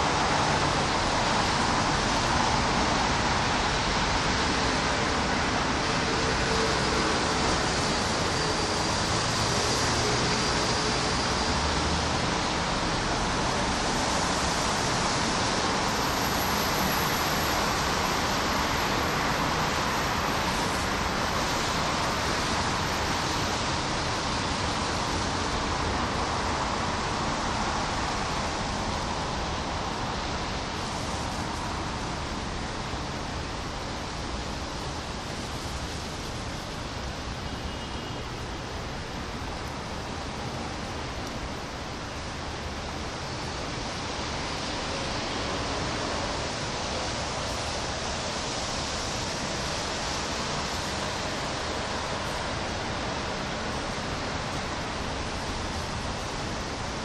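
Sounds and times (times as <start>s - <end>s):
rain on leaves and wet street: 0.0s - 57.0s.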